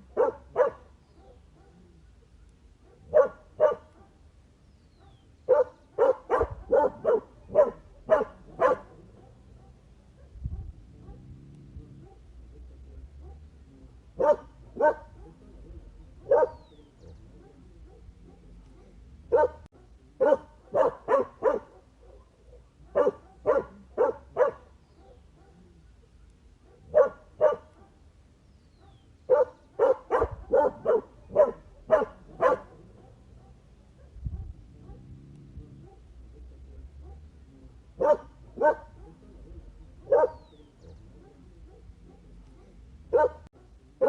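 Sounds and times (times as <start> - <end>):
dog barking: 0.0 - 4.3, 5.0 - 13.6, 14.2 - 28.1, 28.8 - 37.4, 38.0 - 43.8.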